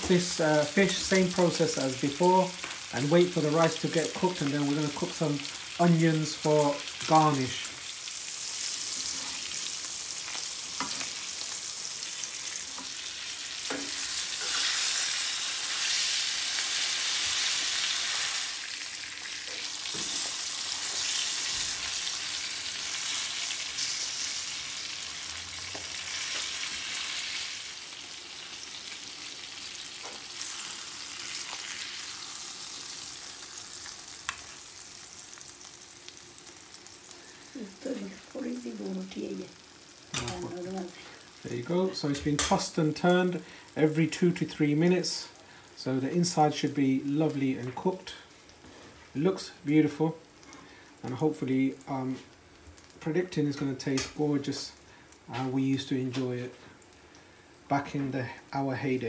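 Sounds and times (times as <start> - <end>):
fish sizzling in frying oil: 0.0 - 59.0.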